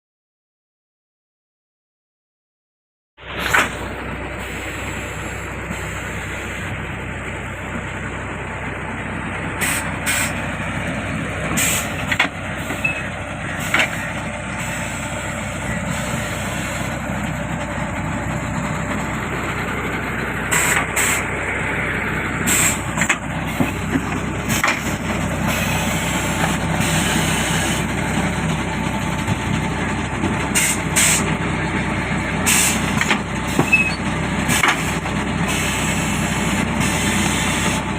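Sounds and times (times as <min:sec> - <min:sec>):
machine engine drone: 0:03.2 - 0:37.9.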